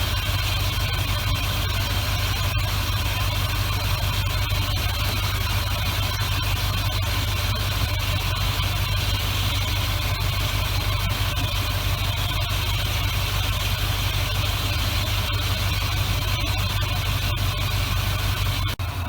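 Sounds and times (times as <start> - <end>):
pickup engine running: 0.0 - 19.0.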